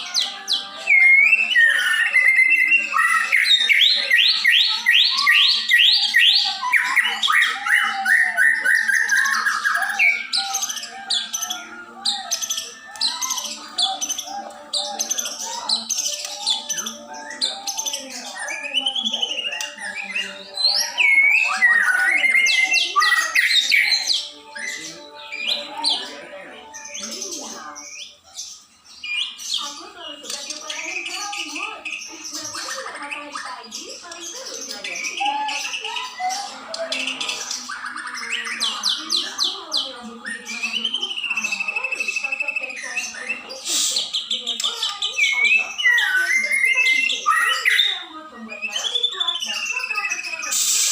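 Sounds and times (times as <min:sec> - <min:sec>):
bird trilling: 0:00.0 - 0:50.9
songbird singing: 0:00.0 - 0:50.9.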